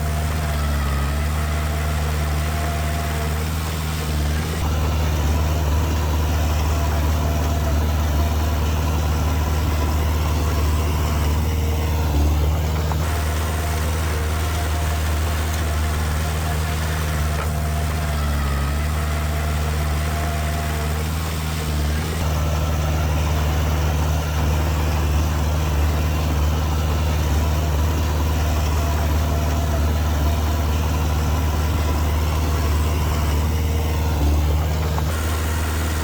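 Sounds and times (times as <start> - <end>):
heavy diesel engine droning: 0.0 - 36.0.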